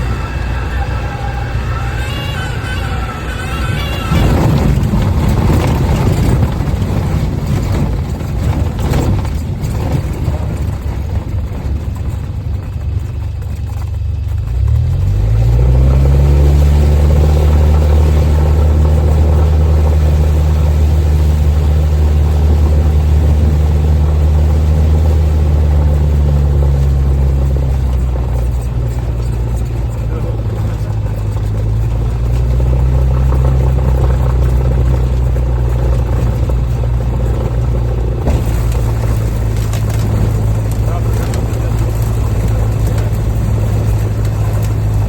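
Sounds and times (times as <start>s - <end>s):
light airplane engine drone: 0.0s - 14.8s, 15.6s - 45.0s.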